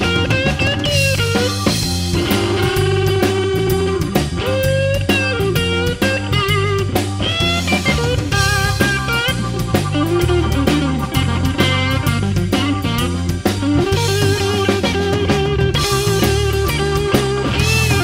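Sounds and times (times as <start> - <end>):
bass and drums: 0.0 - 18.0
electric guitar bending notes: 0.0 - 18.0.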